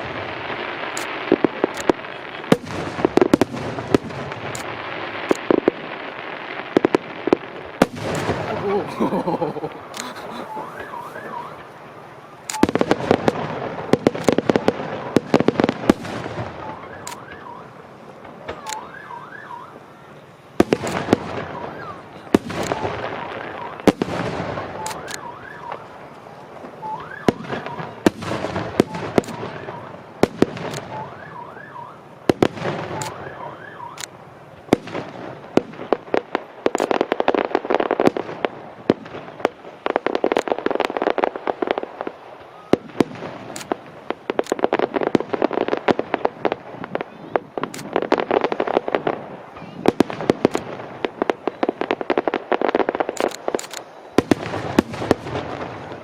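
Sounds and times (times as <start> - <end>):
fireworks crackle: 0.0 - 56.0.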